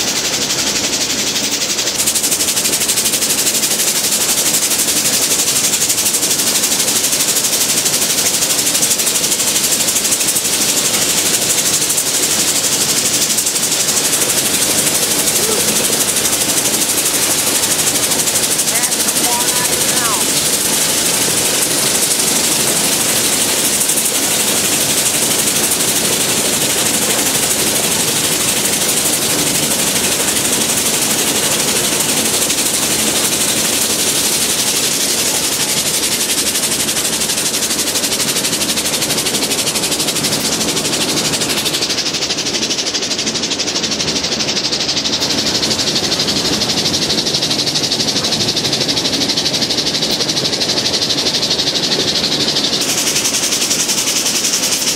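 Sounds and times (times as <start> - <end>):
rack railway train running: 0.0 - 54.9.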